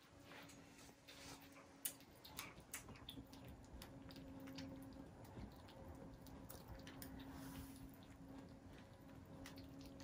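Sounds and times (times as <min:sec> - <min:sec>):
kittens crunching dry kibble: 0:00.0 - 0:10.0.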